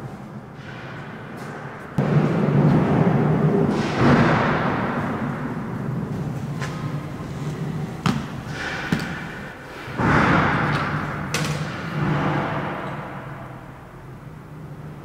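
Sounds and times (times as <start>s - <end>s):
loud rushing noise: 1.8s - 13.9s.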